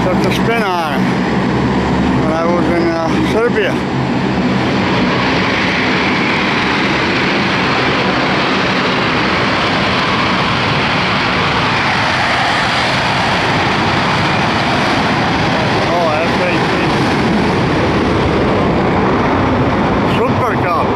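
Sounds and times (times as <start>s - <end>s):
airplane engine drone: 0.0s - 20.9s.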